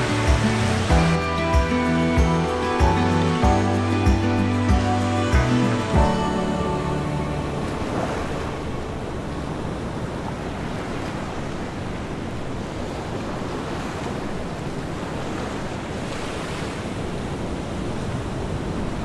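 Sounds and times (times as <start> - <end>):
sea waves washing on shore: 0.0 - 19.0
wind: 0.0 - 19.0.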